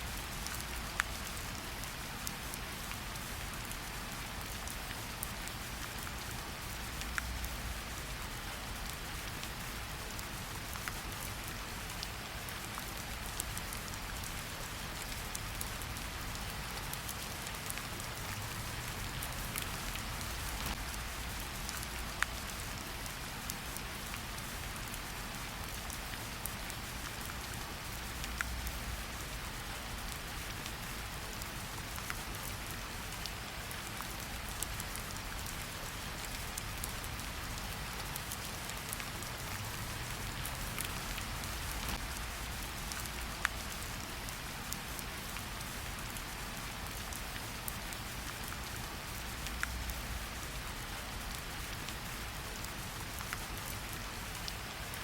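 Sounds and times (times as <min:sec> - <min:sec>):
rain falling in forest: 0:00.0 - 0:55.0
raindrops ticking on surfaces: 0:00.0 - 0:55.0.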